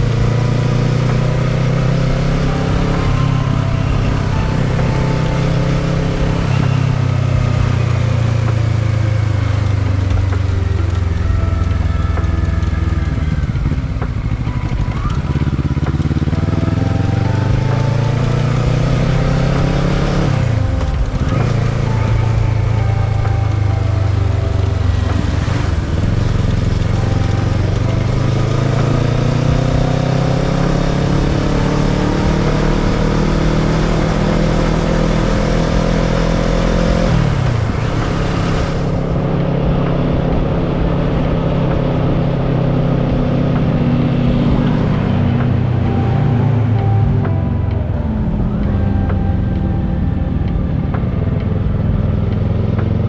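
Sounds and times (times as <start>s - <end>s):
motorcycle engine while riding: 0.0s - 53.0s.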